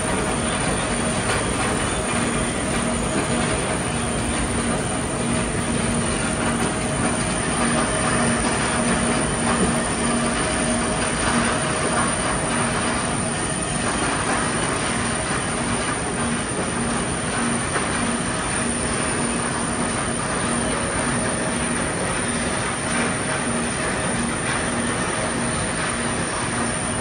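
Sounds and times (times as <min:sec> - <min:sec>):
conveyor machinery rumble: 0:00.0 - 0:27.0
machinery whine: 0:00.0 - 0:27.0.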